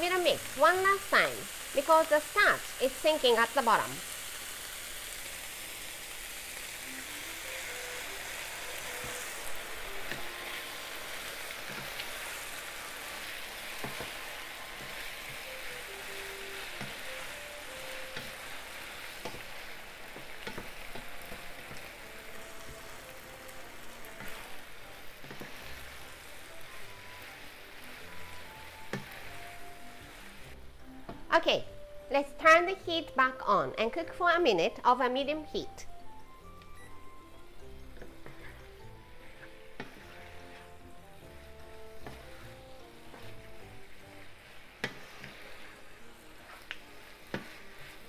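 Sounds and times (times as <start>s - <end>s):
faint background music: 0.0s - 48.0s
food sizzling in a frying pan: 0.0s - 48.0s.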